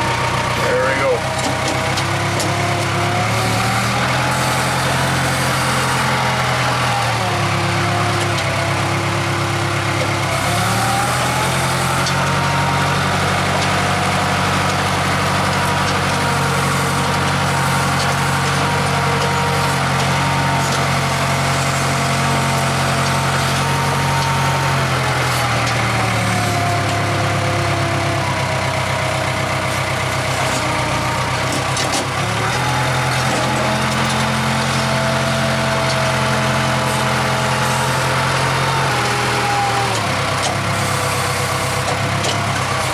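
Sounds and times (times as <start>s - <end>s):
diesel engine revving: 0.0s - 42.9s.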